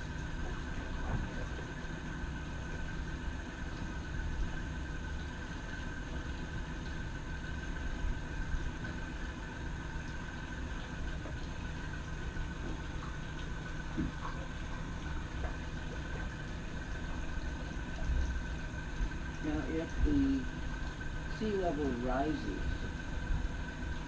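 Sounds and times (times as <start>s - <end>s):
boat motor rumbling: 0.0s - 24.0s.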